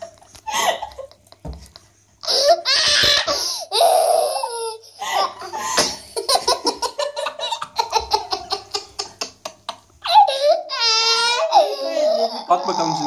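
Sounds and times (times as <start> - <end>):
child laughing: 0.5 - 12.5.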